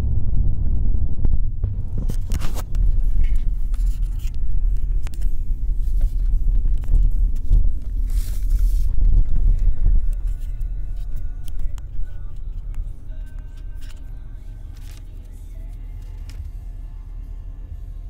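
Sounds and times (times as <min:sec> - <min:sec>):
car cabin engine rumble: 0:00.0 - 0:18.0.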